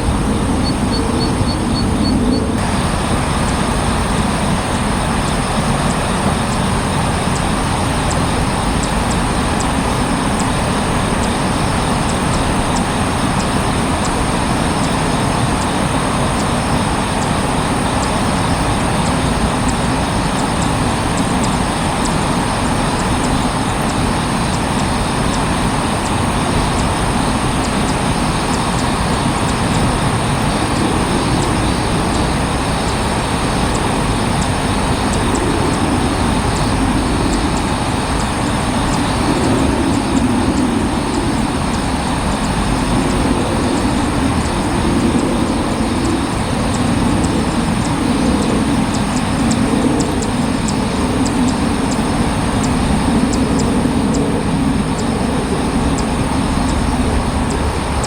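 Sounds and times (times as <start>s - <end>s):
outdoor background rumble: 0.0s - 58.0s.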